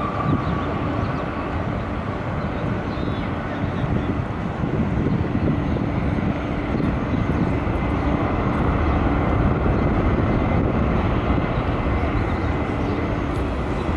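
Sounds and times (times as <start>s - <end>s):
jet engine drone: 0.0s - 13.9s
jet engines rumbling: 0.0s - 13.9s.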